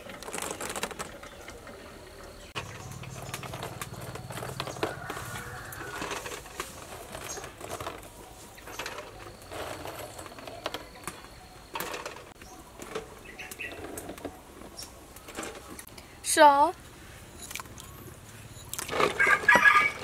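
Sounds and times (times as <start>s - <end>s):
eggs rattling in basket: 0.0s - 15.8s, 18.8s - 20.0s.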